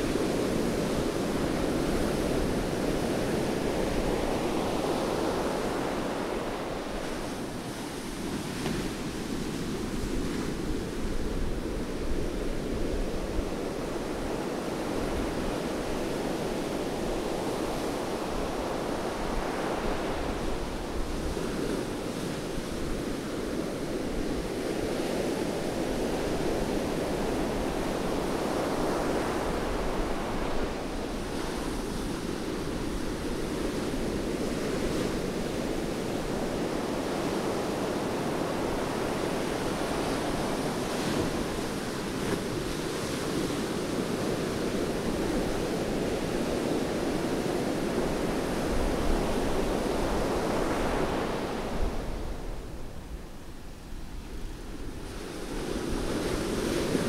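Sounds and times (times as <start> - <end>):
waves breaking on a sandy beach: 0.0 - 57.0.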